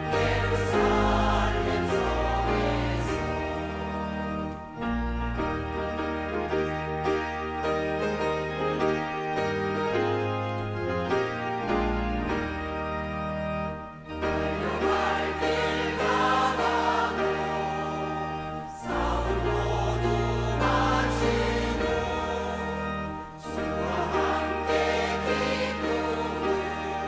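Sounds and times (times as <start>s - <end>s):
choir singing a hymn: 0.0s - 12.9s, 13.6s - 27.0s
organ bass notes: 0.0s - 27.0s
piano: 0.0s - 27.0s.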